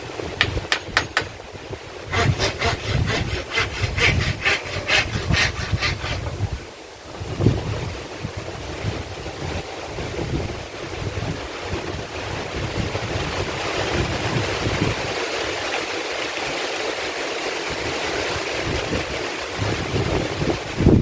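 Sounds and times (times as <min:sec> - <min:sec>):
heavy rain in a forest: 0:00.0 - 0:04.8, 0:05.5 - 0:21.0
wind buffeting microphone: 0:00.0 - 0:16.6, 0:17.6 - 0:21.0.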